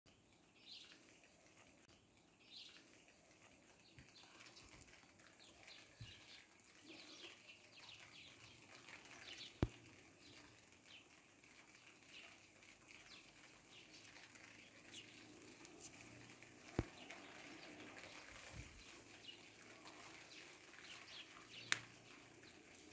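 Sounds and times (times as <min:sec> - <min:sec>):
small birds chirping: 0:00.1 - 0:22.9
soft steady hiss: 0:00.1 - 0:22.9.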